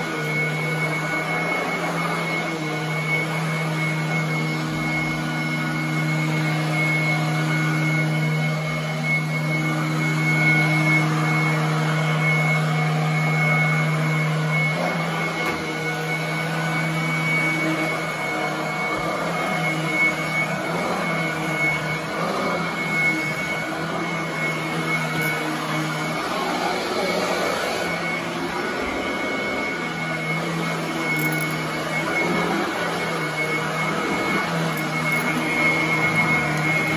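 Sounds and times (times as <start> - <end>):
vacuum cleaner running on carpet: 0.0 - 36.9.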